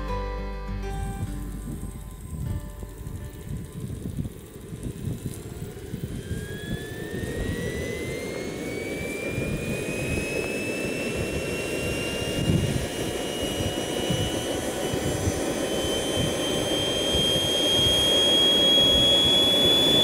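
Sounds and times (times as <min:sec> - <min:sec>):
turbine rushing roar: 0:00.0 - 0:20.0
model jet turbine whine: 0:00.9 - 0:20.0.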